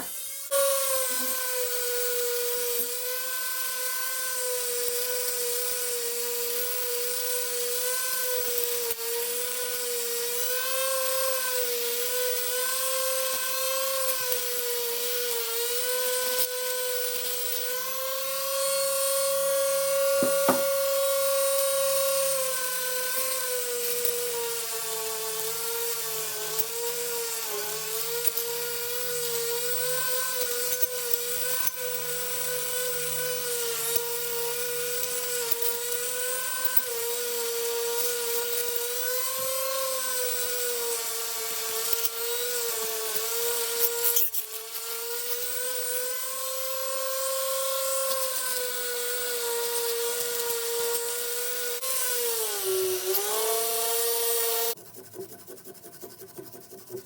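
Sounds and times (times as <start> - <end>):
power tool motor whining: 0.0 - 54.8.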